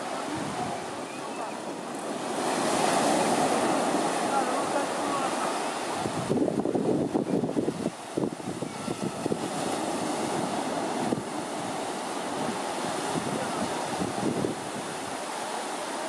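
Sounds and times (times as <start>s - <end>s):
small waves breaking on beach: 0.0s - 16.0s
wind gusting on microphone: 0.0s - 16.0s.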